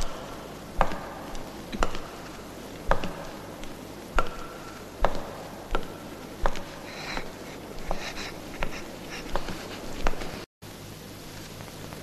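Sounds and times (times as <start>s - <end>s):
footsteps on tiled floor: 0.0s - 10.5s.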